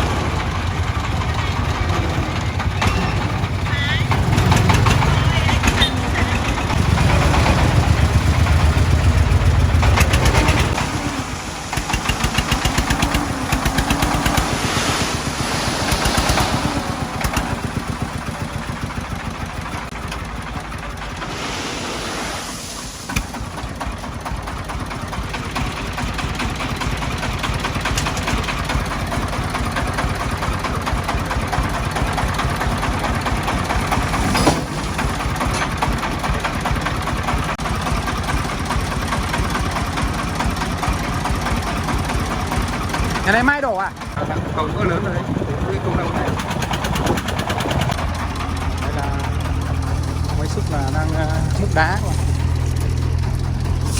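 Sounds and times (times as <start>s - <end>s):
diesel engine putting: 0.0s - 53.9s.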